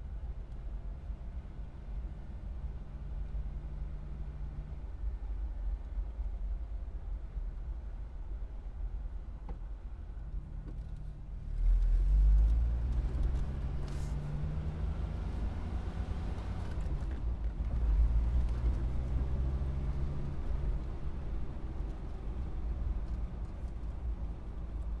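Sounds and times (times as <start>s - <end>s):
car engine idling and accelerating: 0.0s - 25.0s.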